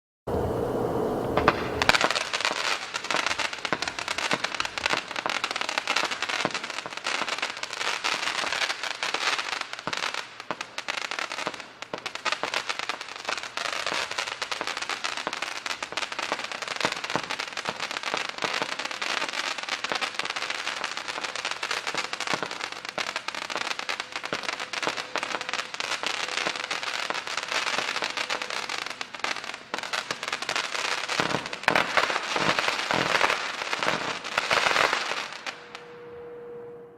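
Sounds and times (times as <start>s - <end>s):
firework pops and crackles: 1.4s - 35.6s.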